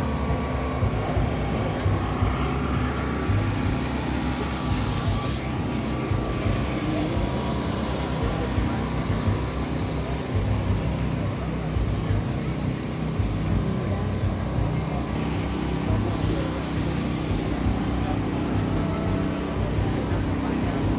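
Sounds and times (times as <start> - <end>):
car engine idling: 0.0 - 20.9
people talking: 0.0 - 20.9.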